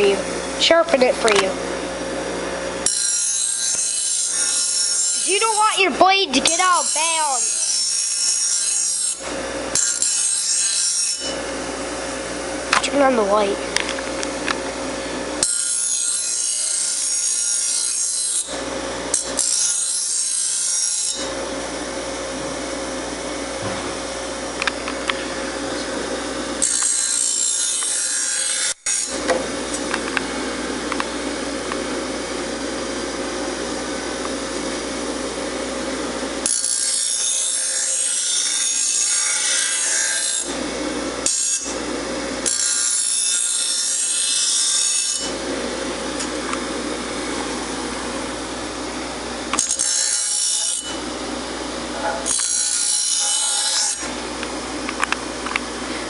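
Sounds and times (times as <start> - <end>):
grinder motor hum: 0.0 - 56.0.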